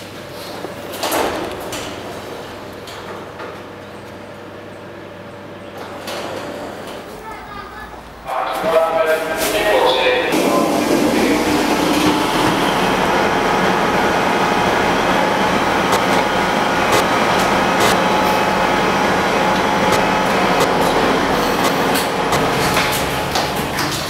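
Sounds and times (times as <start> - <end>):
passenger train running: 1.8 - 24.0.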